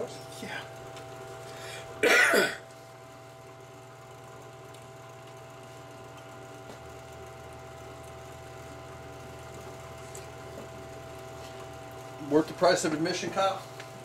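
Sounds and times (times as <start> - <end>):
bench buffer motor hum: 0.0 - 14.0.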